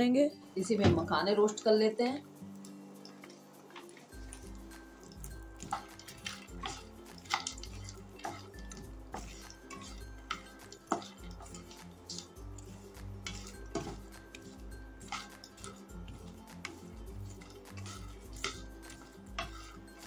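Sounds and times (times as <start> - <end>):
background music: 0.0 - 20.0
spatula scraping frying pan: 3.0 - 20.0
puffed seeds rattling in pan: 3.1 - 20.0.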